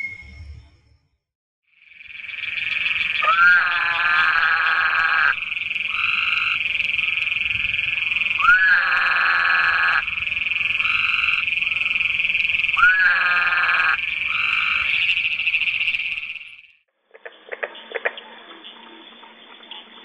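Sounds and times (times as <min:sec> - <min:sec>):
toads calling: 0:01.7 - 0:18.2.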